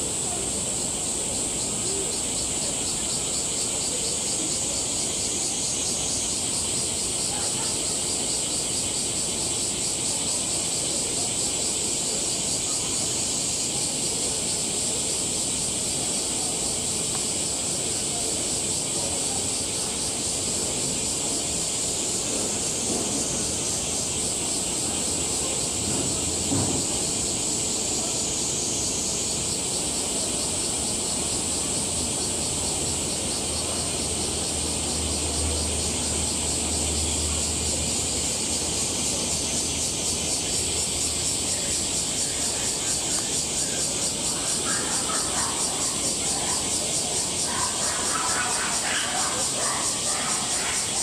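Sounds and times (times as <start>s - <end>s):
background murmur: 0.0s - 51.0s
cicadas chorus: 0.0s - 51.0s.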